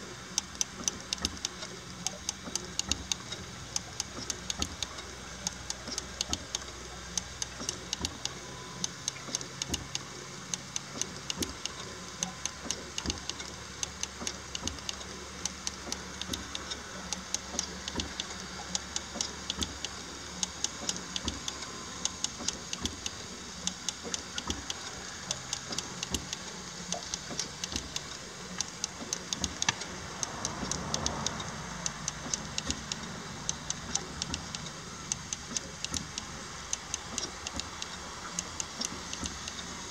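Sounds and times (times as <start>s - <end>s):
steam engine clicking and knocking: 0.0s - 39.9s.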